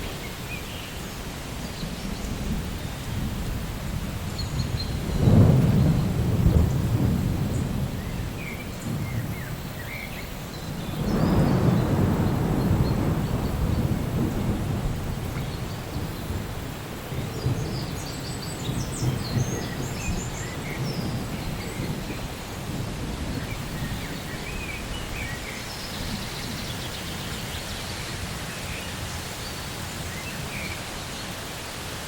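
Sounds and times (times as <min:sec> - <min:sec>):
steady rain: 0:00.0 - 0:32.0
low rumble of thunder: 0:01.7 - 0:30.7.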